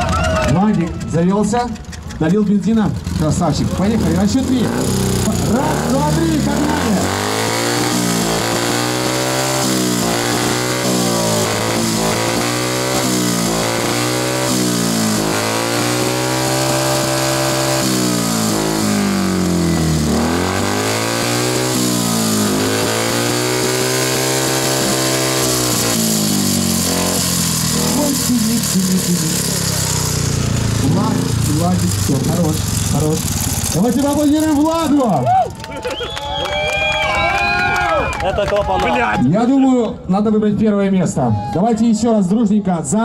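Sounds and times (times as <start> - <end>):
motorcycle engine revving: 0.0 - 35.7.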